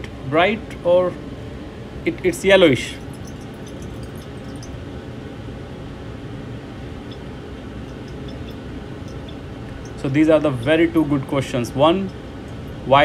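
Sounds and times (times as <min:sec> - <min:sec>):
fume hood ventilation hum: 0:00.0 - 0:13.0.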